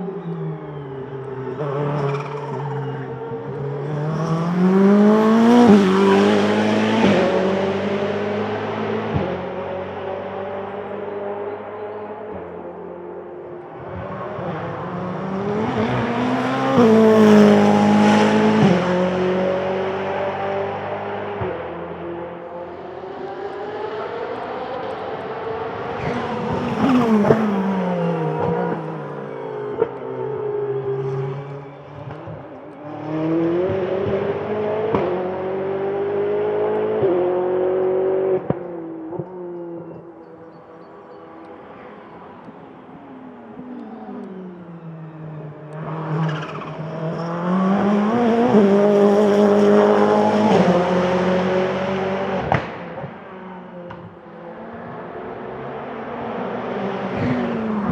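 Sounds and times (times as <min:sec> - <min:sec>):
race car passing at speed: 0:00.0 - 0:57.9.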